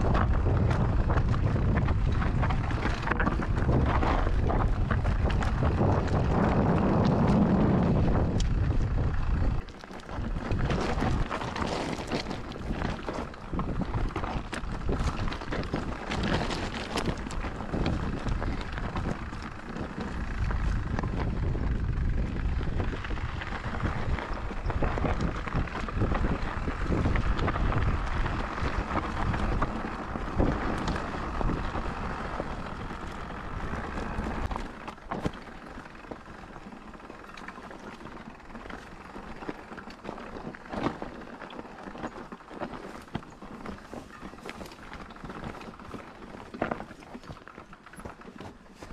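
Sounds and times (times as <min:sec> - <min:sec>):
bike rattling clicks: 0:00.0 - 0:48.9
tyre rumble on dirt: 0:00.0 - 0:48.9
wind buffeting microphone: 0:00.0 - 0:48.9.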